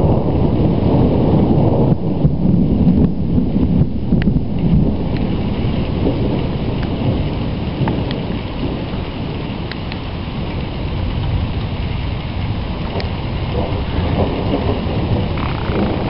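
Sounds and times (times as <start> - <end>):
low rumbling thunder: 0.0 - 16.0.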